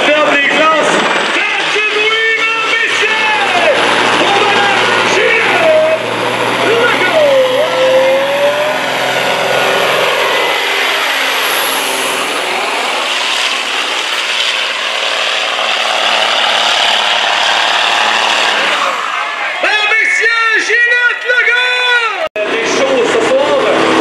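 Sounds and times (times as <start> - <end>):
diesel truck engine at full throttle: 0.0 - 24.0.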